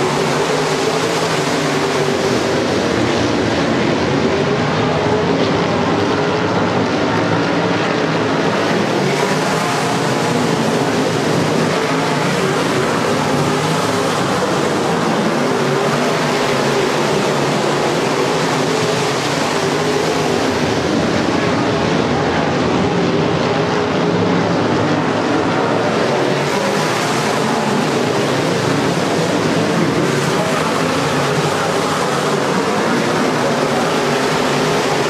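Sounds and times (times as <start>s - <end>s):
race car engines racing: 0.0s - 35.0s.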